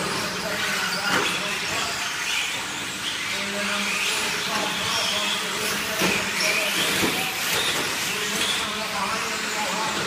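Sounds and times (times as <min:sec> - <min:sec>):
electric motors whining: 0:00.0 - 0:10.0.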